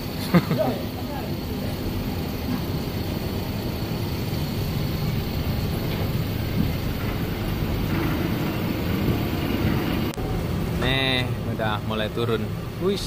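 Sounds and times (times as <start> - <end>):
engines low rumble: 0.0 - 13.0.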